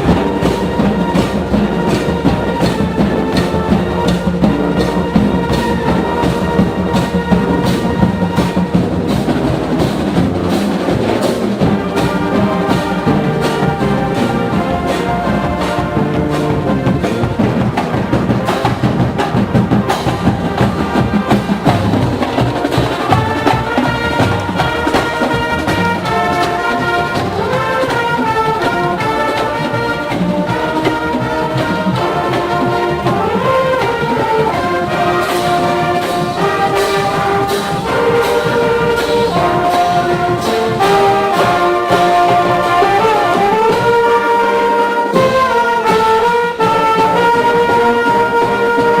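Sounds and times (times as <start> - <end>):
brass section melody: 0.0 - 49.0
marching drums: 0.0 - 49.0.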